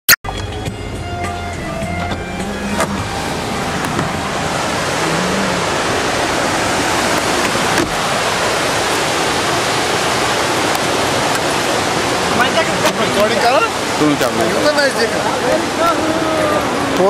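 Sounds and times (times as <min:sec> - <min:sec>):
fast-flowing water rushing: 0:00.4 - 0:17.0.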